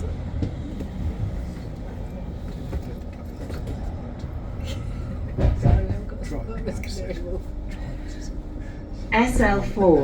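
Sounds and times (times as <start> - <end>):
bus interior rumble: 0.0 - 10.0.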